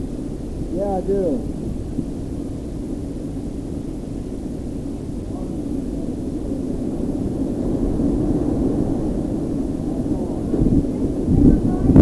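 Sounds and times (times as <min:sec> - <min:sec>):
wind gusting against microphone: 0:00.0 - 0:12.0.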